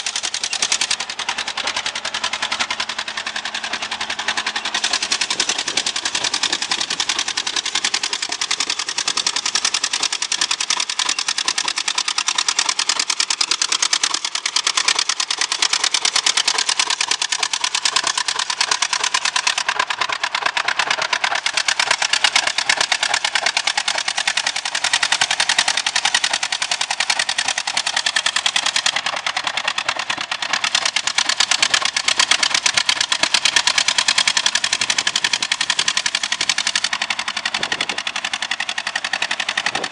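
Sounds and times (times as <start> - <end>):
engine running with rapid exhaust: 0.0 - 39.9.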